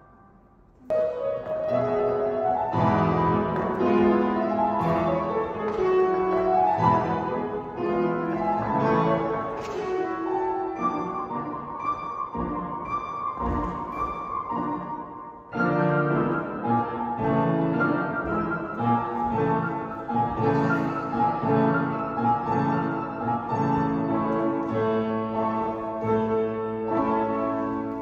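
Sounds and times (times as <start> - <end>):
classical piano music: 0.0 - 28.0.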